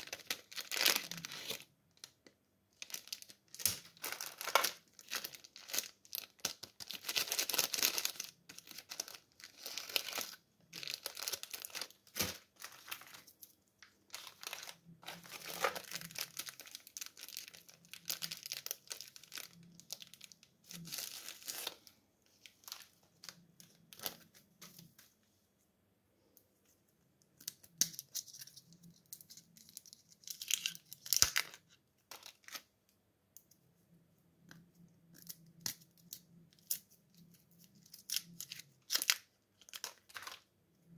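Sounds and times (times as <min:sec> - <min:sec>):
plastic wrappers crinkling and tearing: 0:00.0 - 0:25.0, 0:27.5 - 0:32.7, 0:35.1 - 0:40.5.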